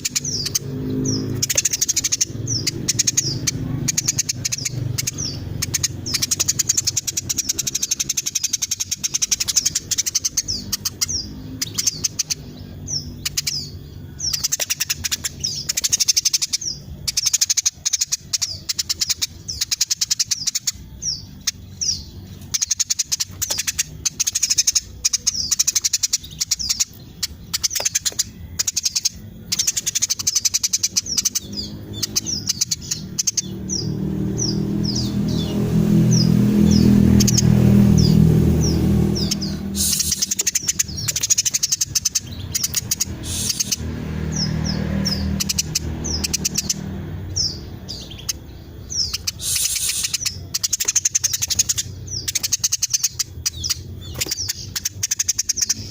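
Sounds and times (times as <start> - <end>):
sparrow chirping: 0.0 - 55.9.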